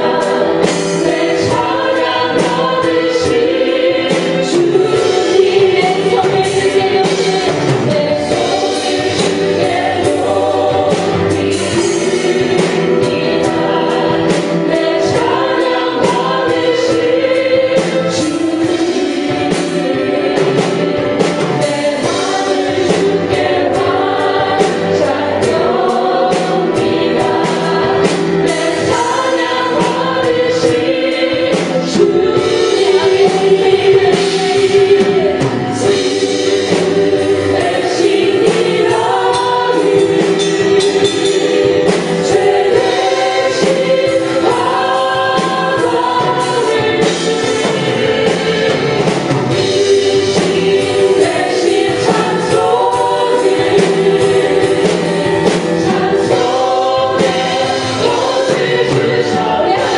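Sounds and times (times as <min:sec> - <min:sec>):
group of voices singing: 0:00.0 - 0:59.9
praise band with drums: 0:00.0 - 0:59.9.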